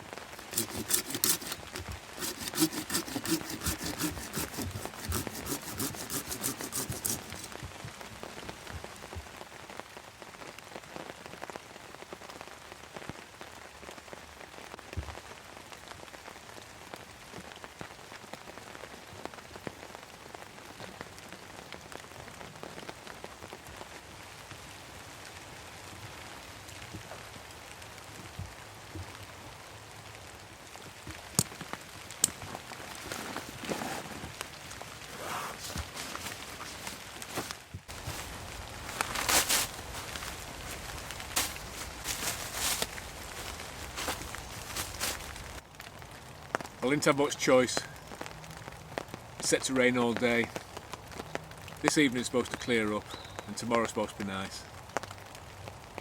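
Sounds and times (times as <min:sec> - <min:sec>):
steady rain falling: 0:00.0 - 0:00.5, 0:07.5 - 0:56.0.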